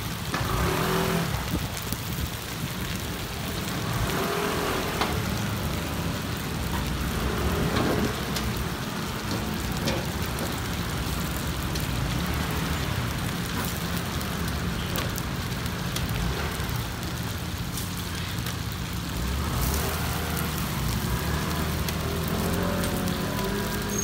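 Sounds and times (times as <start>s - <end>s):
buns sizzling in hot oil: 0.0s - 24.0s.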